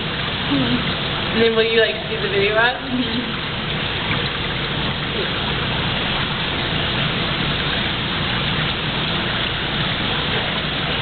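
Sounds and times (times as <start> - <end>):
water rushing into tank: 0.0 - 11.0.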